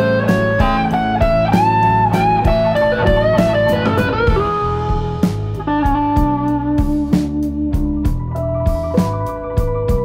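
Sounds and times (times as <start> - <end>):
instrumental music with beat: 0.0 - 10.0.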